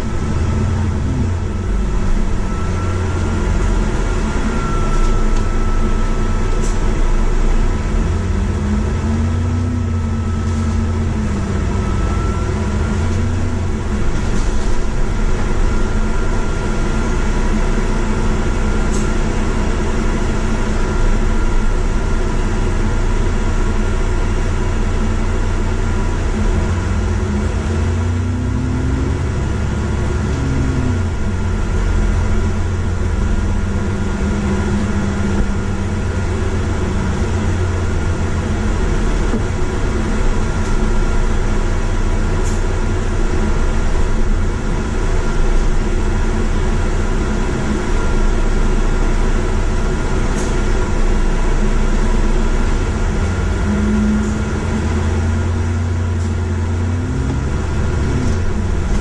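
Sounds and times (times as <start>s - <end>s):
bus engine droning: 0.0s - 59.0s.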